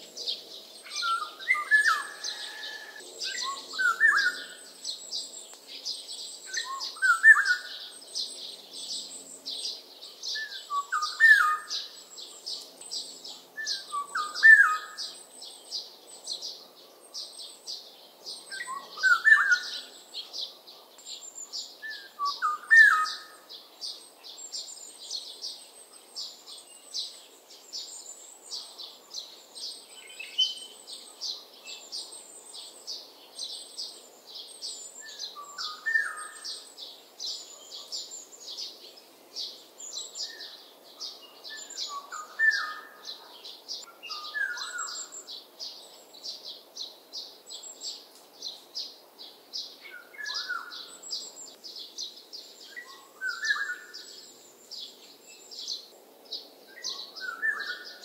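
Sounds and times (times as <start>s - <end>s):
small birds twittering: 0.0s - 58.0s.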